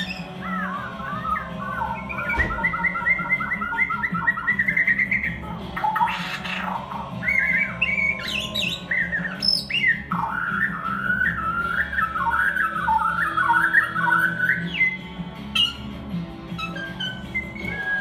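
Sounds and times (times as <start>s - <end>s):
bird singing whistled phrases: 0.0s - 15.9s, 16.6s - 18.0s.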